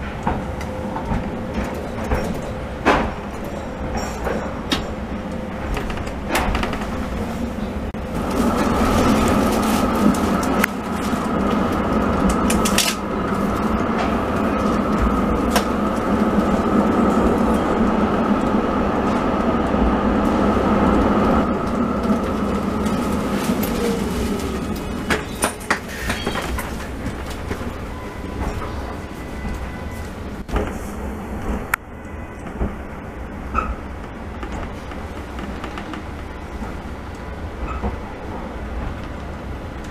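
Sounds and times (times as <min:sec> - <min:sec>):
tram rumbling: 0:00.0 - 0:39.9
tram whine: 0:00.0 - 0:39.9.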